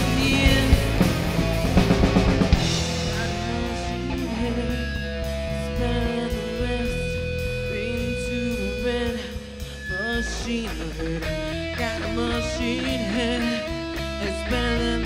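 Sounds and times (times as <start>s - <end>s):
drums: 0.0s - 15.0s
electric bass: 0.0s - 15.0s
electric guitar long notes: 0.0s - 15.0s.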